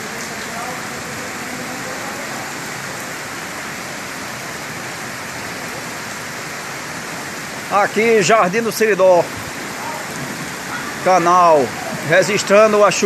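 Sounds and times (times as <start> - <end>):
heavy rain hissing: 0.0 - 13.0
rushing runoff water: 0.0 - 13.0.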